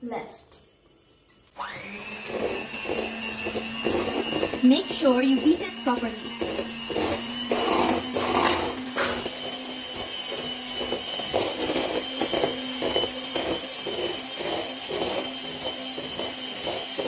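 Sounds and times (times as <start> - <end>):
electric hand mixer running: 0.9 - 17.0.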